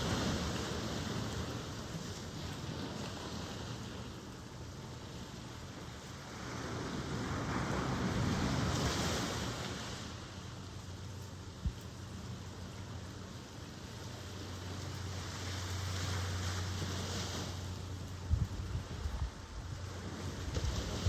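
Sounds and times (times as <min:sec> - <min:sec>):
ocean surf washing: 0:00.0 - 0:21.0.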